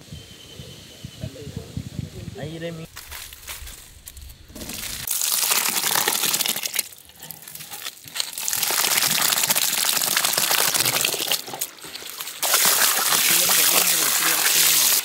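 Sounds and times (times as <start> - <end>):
small fish crackling and slithering: 2.9 - 15.0.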